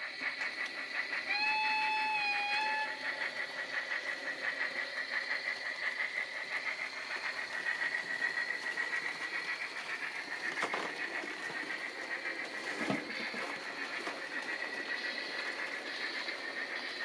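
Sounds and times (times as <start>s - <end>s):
model locomotive pulsing whine: 0.0s - 17.0s.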